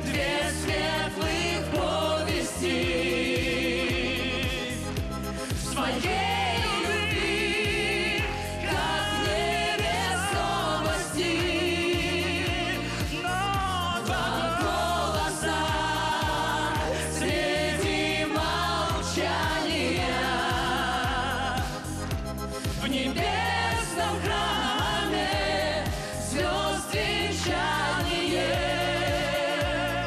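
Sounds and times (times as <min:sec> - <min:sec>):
band playing steady beat: 0:00.0 - 0:30.0.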